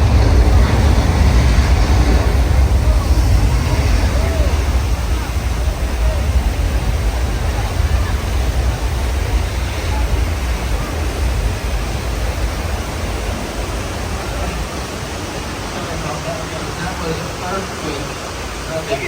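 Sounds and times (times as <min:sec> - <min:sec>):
deep rumble: 0:00.0 - 0:15.7
rushing water: 0:00.0 - 0:19.0.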